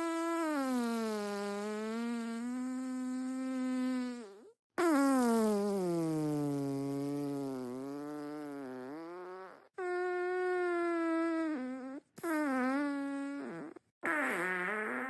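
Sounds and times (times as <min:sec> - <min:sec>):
long tonal farts: 0:00.0 - 0:15.0.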